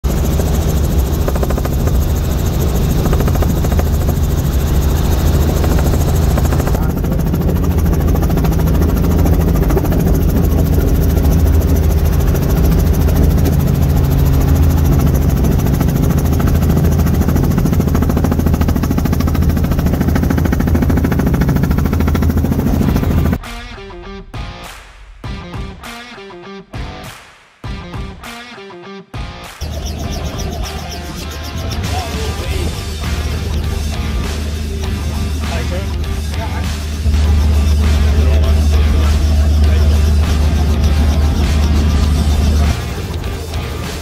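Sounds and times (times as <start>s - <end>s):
helicopter rotor and engine: 0.0s - 23.4s, 29.6s - 44.0s.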